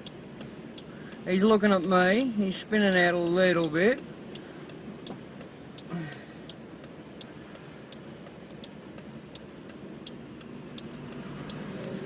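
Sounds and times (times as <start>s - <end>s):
car indicator ticking: 0.0s - 12.0s
car moving hum: 0.0s - 12.0s.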